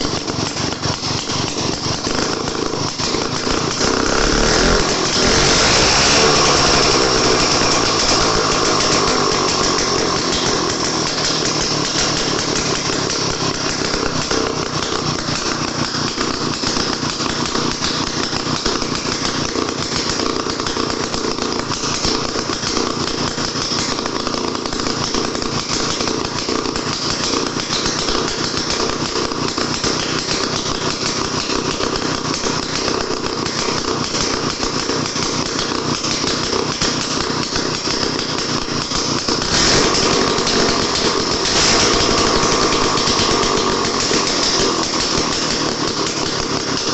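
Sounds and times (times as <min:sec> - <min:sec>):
small two-stroke engine running: 0:00.0 - 0:46.9.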